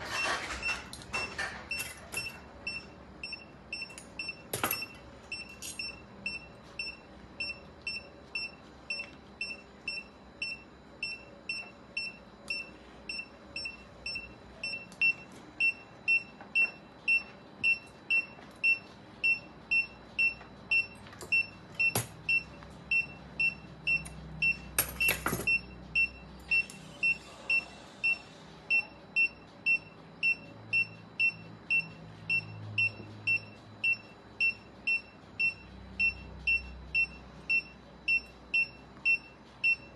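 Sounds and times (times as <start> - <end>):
patient monitor beeping: 0.0 - 39.9.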